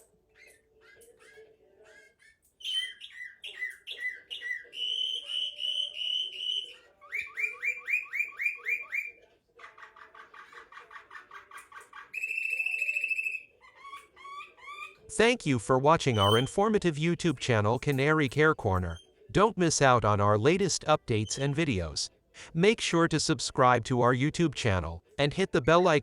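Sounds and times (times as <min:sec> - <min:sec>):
canary singing: 0:00.0 - 0:22.0, 0:24.8 - 0:26.0.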